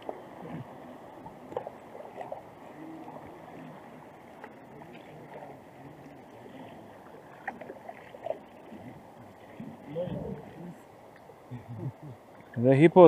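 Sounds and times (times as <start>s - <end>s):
paddles splashing in water: 0.0s - 12.6s
water lapping against hulls: 0.0s - 13.0s.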